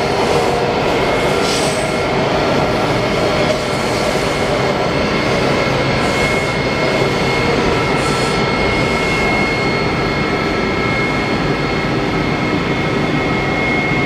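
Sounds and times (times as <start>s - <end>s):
high whine: 0.0s - 14.0s
train wheels and motors running: 0.0s - 14.0s.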